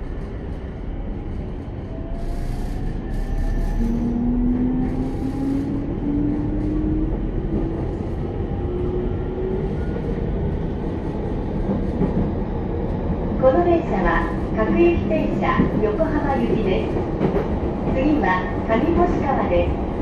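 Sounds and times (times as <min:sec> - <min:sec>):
wheels rumbling on rails: 0:00.0 - 0:18.8.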